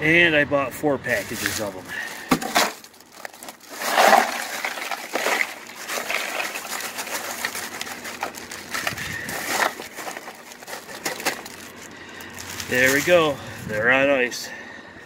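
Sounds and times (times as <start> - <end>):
ice cubes clattering into cooler: 1.1 - 13.4
plastic bag crinkling: 1.1 - 13.4.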